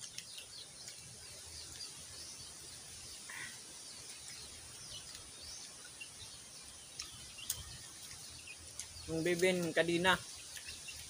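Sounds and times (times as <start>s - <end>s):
bird chirps: 0.0s - 11.0s
high background hiss: 0.0s - 11.0s.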